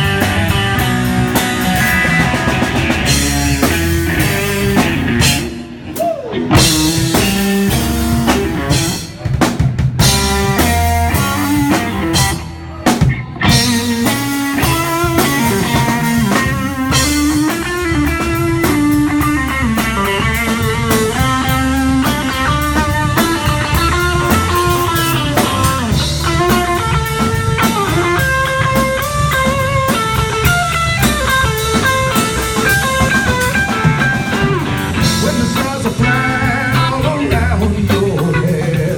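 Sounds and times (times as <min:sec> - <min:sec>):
drum kit: 0:00.0 - 0:38.9
electric guitar: 0:00.0 - 0:38.9.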